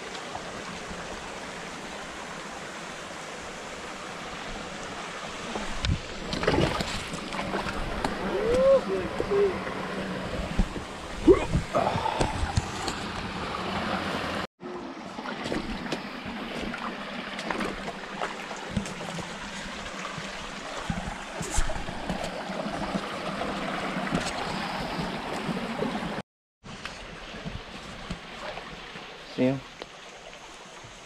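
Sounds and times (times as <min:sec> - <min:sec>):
stream rushing over stones: 0:00.0 - 0:31.0.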